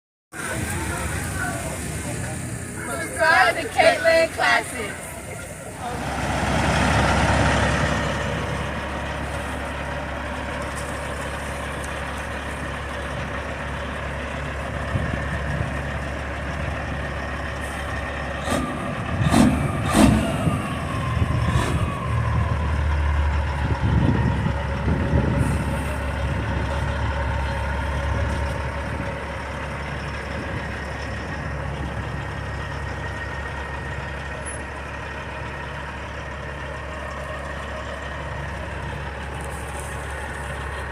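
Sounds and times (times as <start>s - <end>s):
vehicle engine running: 0.4s - 40.9s.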